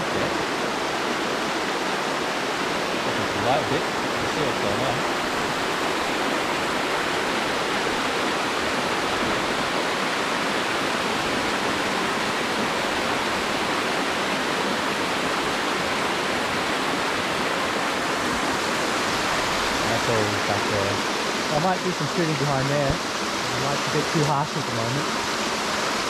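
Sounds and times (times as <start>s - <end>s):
creek rushing over rock: 0.0s - 26.0s.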